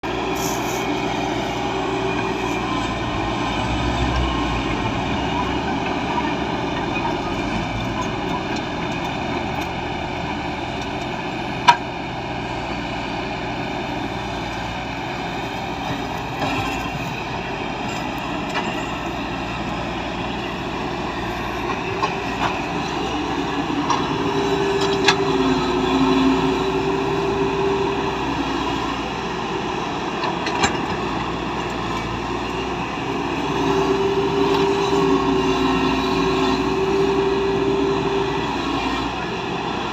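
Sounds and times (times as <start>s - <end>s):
diesel earthmoving machinery rumbling: 0.0s - 39.9s.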